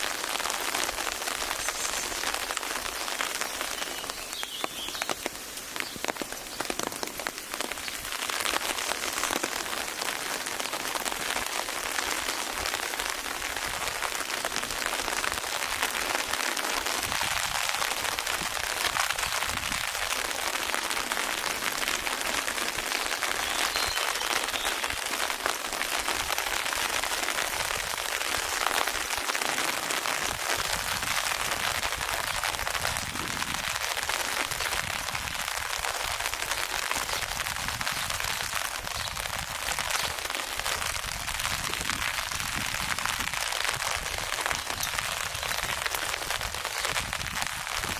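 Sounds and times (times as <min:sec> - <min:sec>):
rain pattering on a surface: 0:00.0 - 0:47.9.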